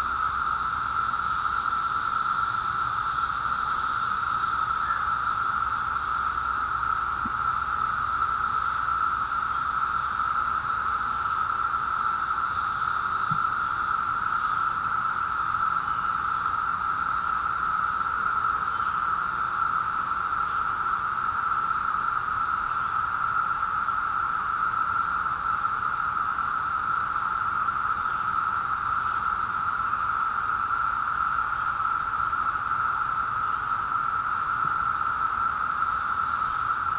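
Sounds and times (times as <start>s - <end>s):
cicadas droning hum: 0.0s - 36.9s
higher-pitched cicada calls: 0.0s - 36.9s.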